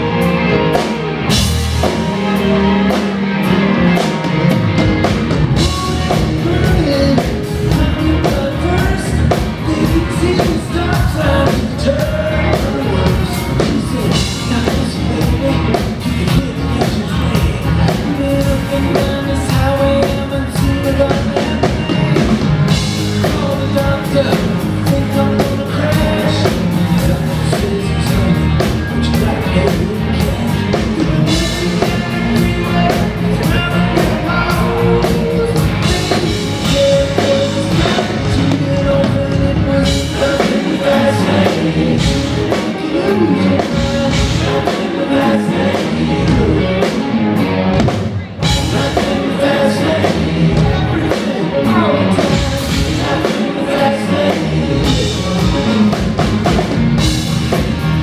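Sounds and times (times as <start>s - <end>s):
lead singer singing: 0.0s - 57.8s
drum kit: 0.0s - 58.0s
electric guitar: 0.0s - 58.0s
keyboards: 0.0s - 58.0s.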